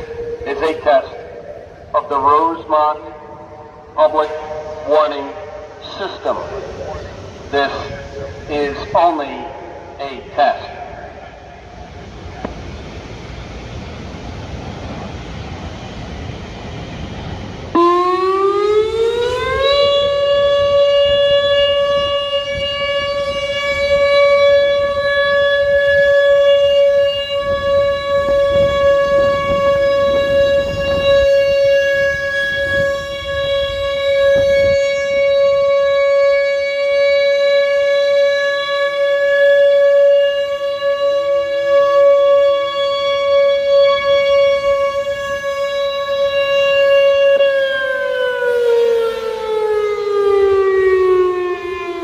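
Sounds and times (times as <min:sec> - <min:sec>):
electronic siren steady tone: 0:00.0 - 0:52.0.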